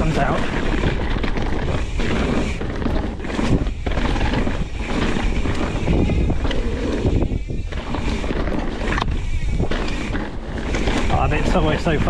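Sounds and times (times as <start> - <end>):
bike clattering: 0.0 - 12.0
tyres rolling on dirt: 0.0 - 12.0
wind on microphone: 0.0 - 12.0.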